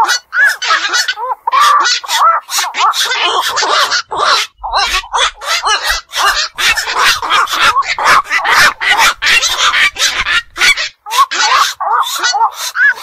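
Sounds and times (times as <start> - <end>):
herons croaking: 0.0 - 13.0.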